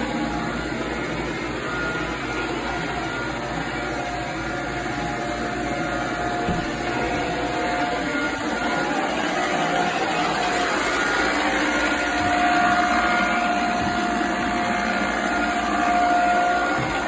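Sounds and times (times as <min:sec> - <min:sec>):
floor scrubber motor whining: 0:00.0 - 0:17.0.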